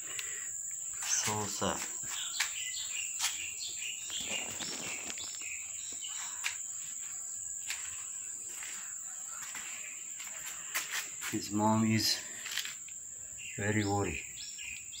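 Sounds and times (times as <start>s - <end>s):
high-pitched insect chirring: 0.2s - 15.0s.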